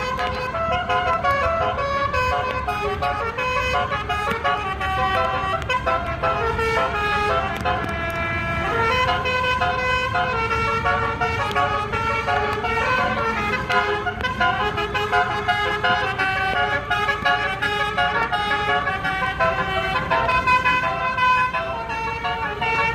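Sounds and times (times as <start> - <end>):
bus musical horn playing a tune: 0.0 - 22.9.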